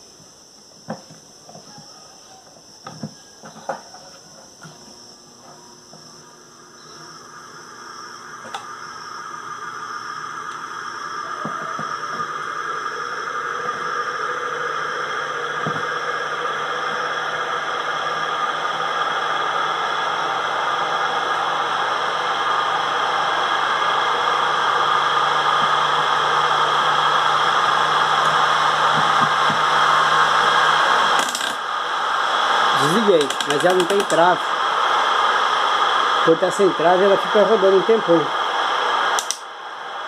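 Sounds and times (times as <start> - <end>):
spin dryer whirring: 4.6 - 40.0.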